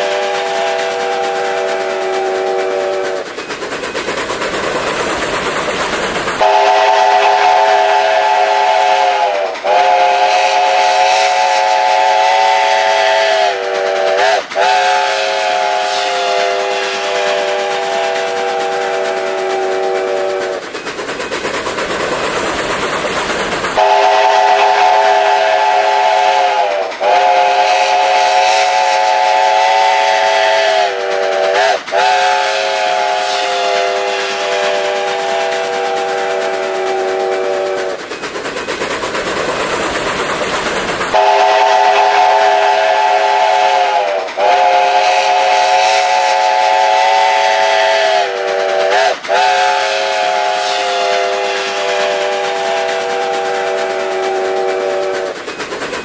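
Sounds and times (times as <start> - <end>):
steam locomotive whistle: 0.0 - 3.4, 6.4 - 20.7, 23.7 - 38.0, 41.1 - 55.5
steam hiss: 0.0 - 56.0
train running: 0.0 - 56.0.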